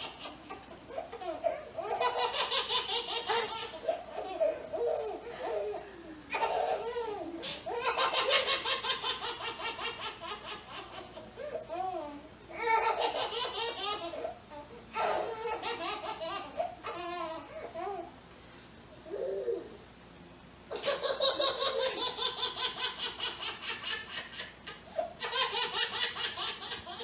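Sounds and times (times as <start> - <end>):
baby laughing: 0.0 - 18.1, 20.7 - 27.0.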